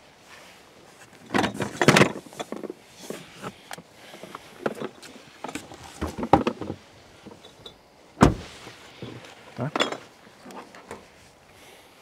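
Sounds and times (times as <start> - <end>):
knocks and scrapes of rummaging: 0.9 - 11.2.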